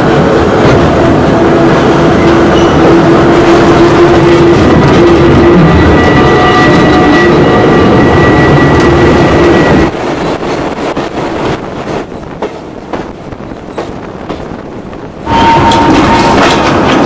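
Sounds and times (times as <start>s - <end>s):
tram running on track: 0.0s - 17.0s.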